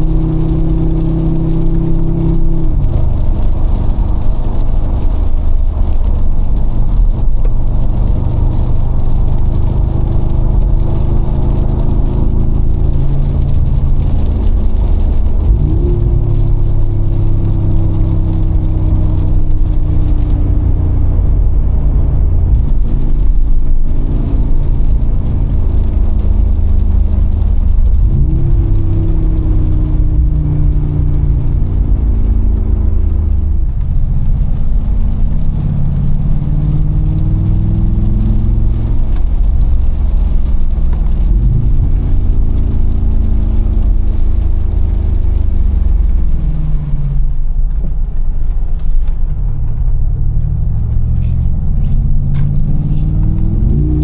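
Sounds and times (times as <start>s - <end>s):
deep car engine revving: 0.0s - 54.0s
road rumble: 0.0s - 54.0s.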